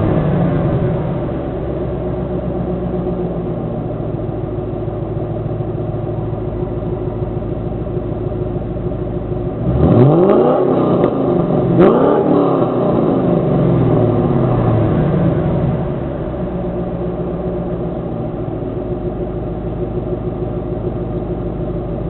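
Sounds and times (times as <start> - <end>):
car engine idling and revving: 0.0 - 22.0
exhaust crack: 0.0 - 22.0.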